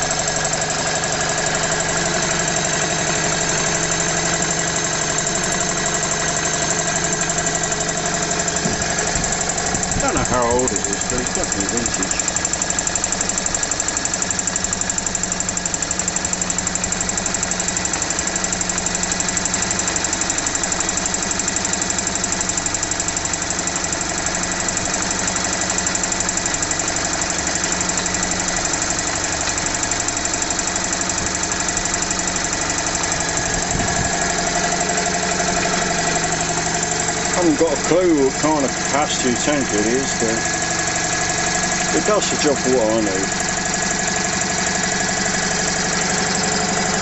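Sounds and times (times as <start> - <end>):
air compressor chugging: 0.0 - 47.0.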